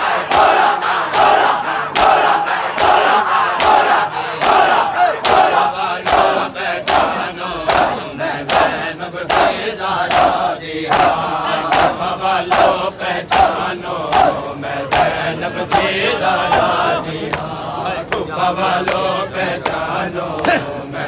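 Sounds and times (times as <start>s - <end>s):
men chanting loudly: 0.0s - 21.0s.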